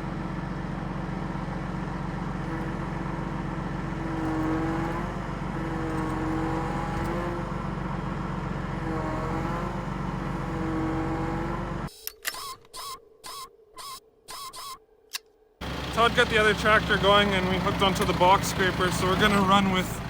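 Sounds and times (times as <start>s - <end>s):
tractor engine under load: 0.0s - 11.9s, 15.6s - 20.0s.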